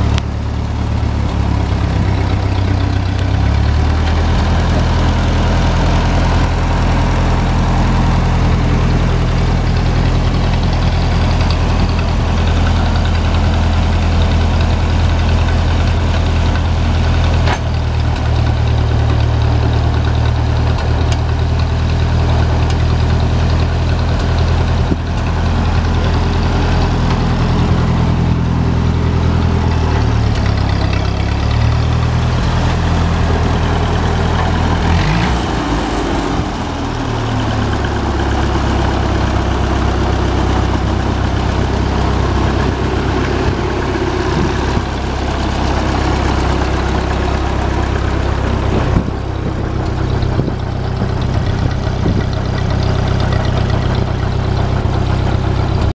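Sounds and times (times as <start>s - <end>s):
tractor engine idling: 0.0s - 55.9s.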